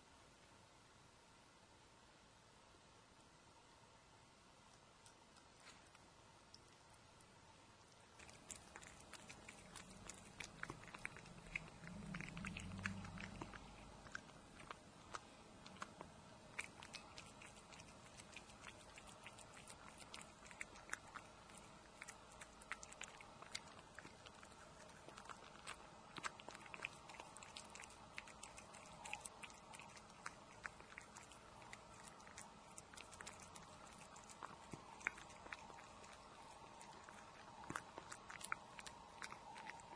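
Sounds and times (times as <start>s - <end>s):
low hum: 3.2s - 39.9s
cat chewing and lapping food: 4.5s - 39.9s.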